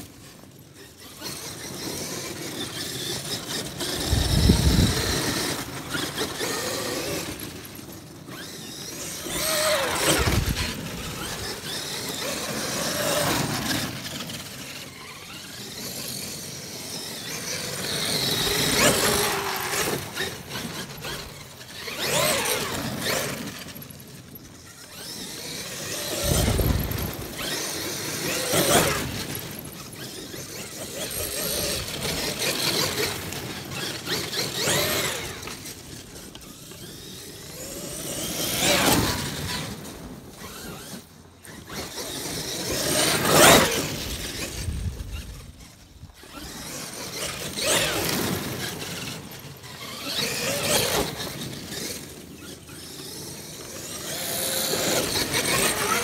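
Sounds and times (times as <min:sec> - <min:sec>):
electric motor whining: 0:00.8 - 0:23.8, 0:24.6 - 0:56.0.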